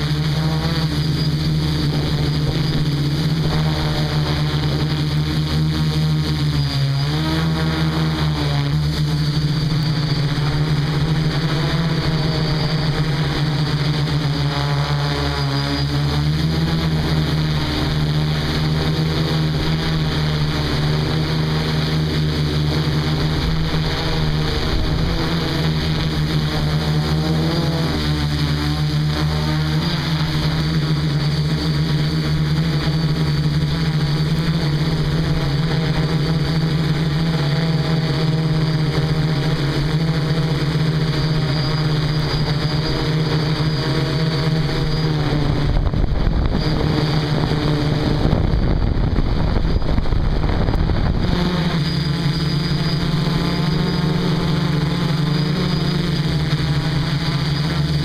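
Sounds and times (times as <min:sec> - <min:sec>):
drone motors buzzing: 0:00.0 - 0:58.0.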